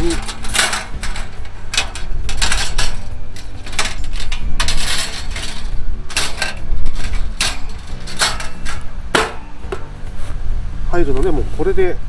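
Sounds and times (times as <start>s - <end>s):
metal grill grate clattering: 0.0s - 10.0s.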